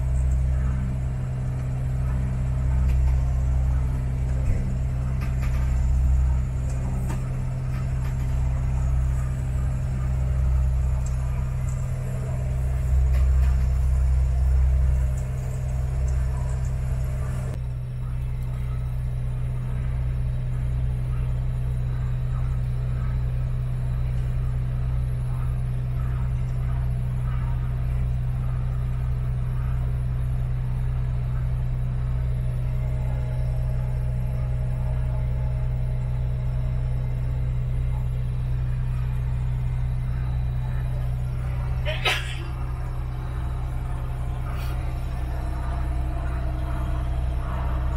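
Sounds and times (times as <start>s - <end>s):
motorboat engine running: 0.0s - 47.9s.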